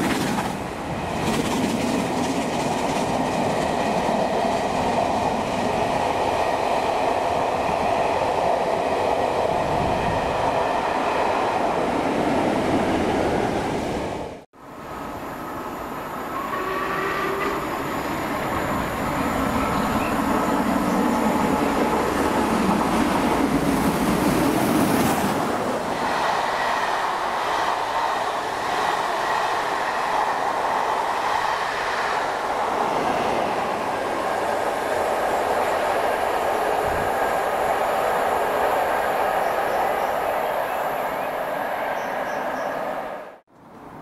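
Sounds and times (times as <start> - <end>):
train wheels on rails: 0.0 - 43.9.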